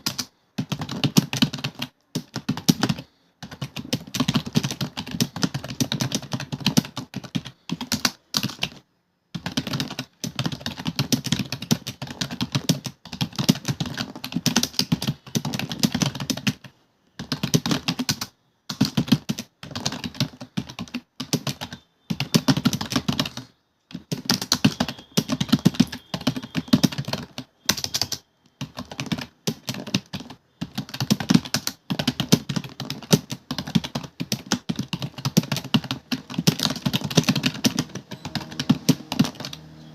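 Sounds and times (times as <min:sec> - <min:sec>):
fast typing on keyboard: 0:00.0 - 0:39.8.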